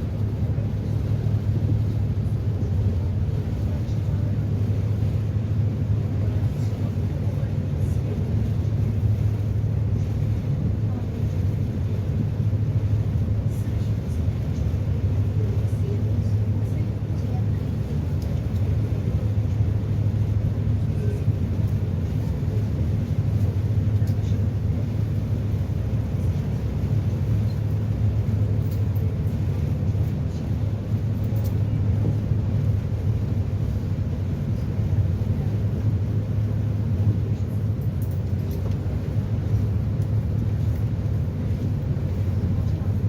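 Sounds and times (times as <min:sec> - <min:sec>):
ferry engines droning: 0:00.0 - 0:43.0.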